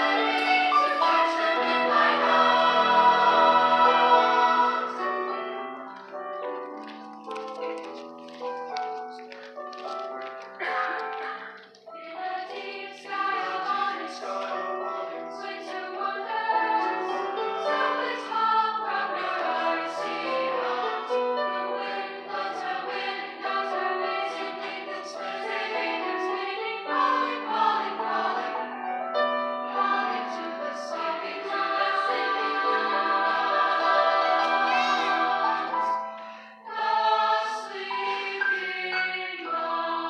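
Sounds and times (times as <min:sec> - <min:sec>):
chorus singing in harmony: 0:00.0 - 0:06.2, 0:10.6 - 0:40.0.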